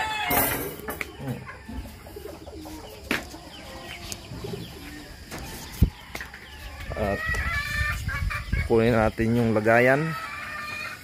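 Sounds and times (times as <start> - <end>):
chickens clucking and cooing: 0.0 - 11.0.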